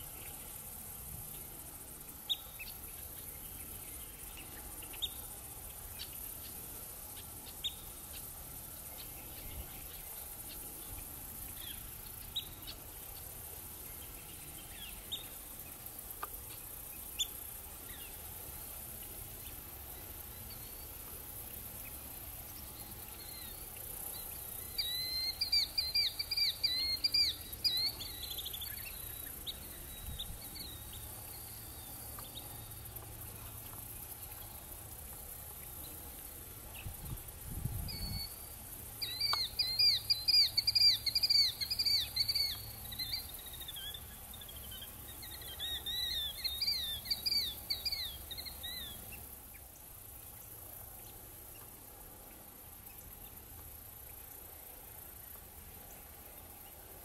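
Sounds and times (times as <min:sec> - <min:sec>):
insects hissing: 0:00.0 - 0:57.0
songbird singing: 0:00.0 - 0:57.0.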